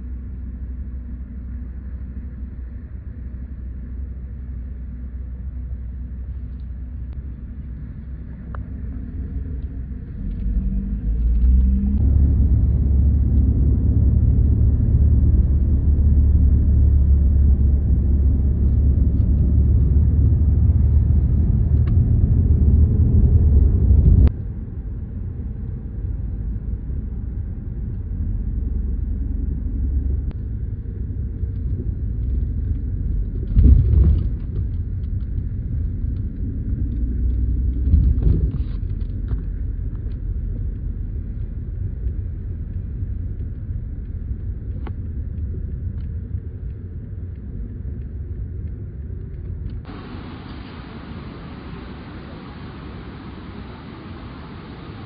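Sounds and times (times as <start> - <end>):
road and tyre noise in car: 0.0 - 55.0.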